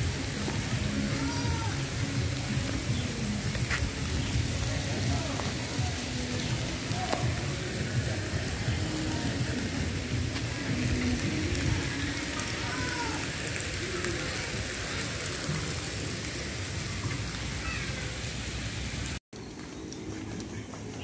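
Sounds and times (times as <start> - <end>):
outdoor background: 0.0 - 21.0
rush of flowing water: 0.0 - 21.0.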